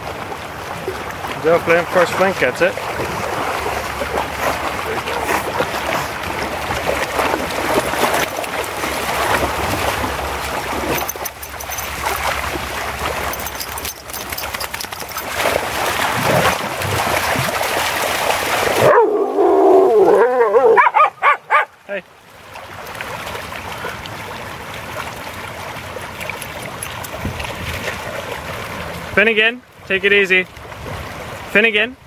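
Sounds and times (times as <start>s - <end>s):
stream rushing over stones: 0.0s - 20.5s, 21.4s - 31.9s
dogs splashing in water: 0.0s - 29.8s, 30.5s - 31.5s.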